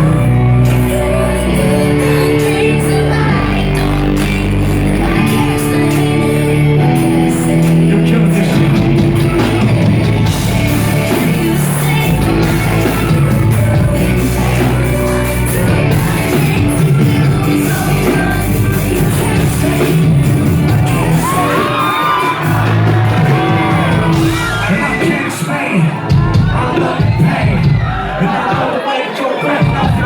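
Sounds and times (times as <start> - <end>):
live band music: 0.0 - 28.8
crowd singing and shouting: 0.0 - 30.0
crowd whooping: 0.0 - 30.0.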